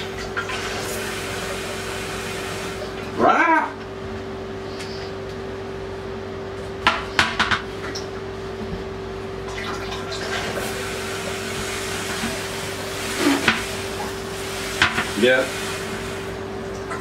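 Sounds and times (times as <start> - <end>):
water running in plumbing: 0.0 - 17.0.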